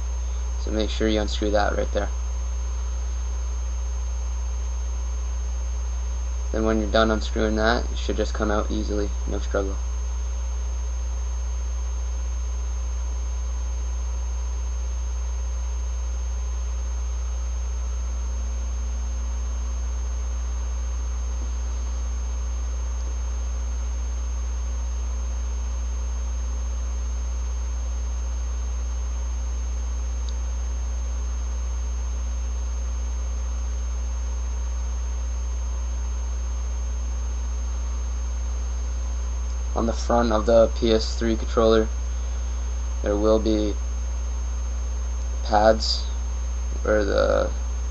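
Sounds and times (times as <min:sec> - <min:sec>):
faint high-pitched whine: 0:00.0 - 0:47.9
low electrical mains hum: 0:00.0 - 0:47.9.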